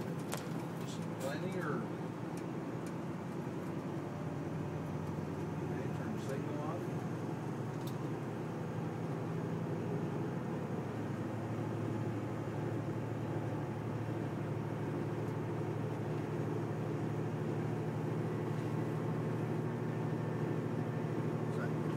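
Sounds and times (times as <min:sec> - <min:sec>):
diesel truck engine droning: 0:00.0 - 0:21.9
road noise: 0:00.0 - 0:21.9.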